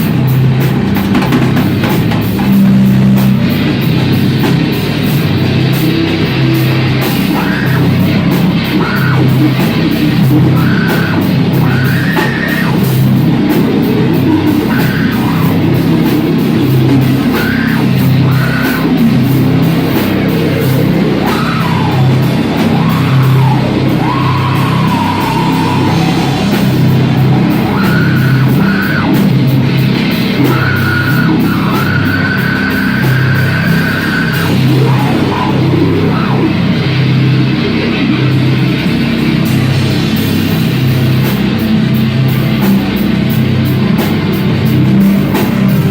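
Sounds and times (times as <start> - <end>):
bass guitar: 0.0 - 45.9
drums: 0.0 - 45.9
electric guitar: 0.0 - 45.9.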